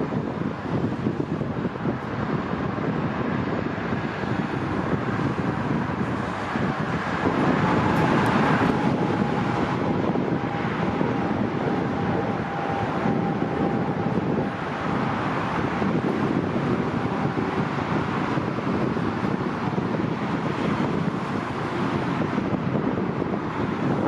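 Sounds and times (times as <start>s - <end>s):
distant jet engines rumbling: 0.0s - 24.0s
faint jet whine: 0.0s - 24.0s
wind buffeting microphone: 0.0s - 24.0s.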